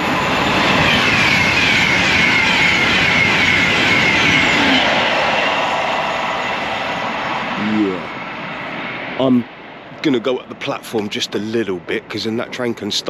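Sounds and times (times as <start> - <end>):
high falling whine: 0.0 - 12.8
train passing at speed: 0.0 - 13.0.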